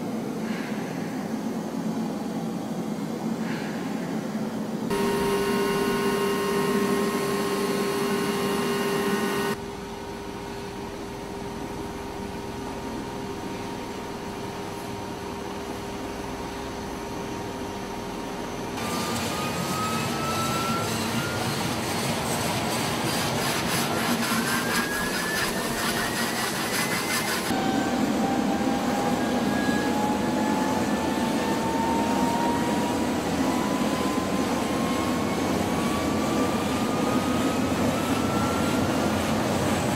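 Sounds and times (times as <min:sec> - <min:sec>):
turbine engine whine: 0:00.0 - 0:39.9.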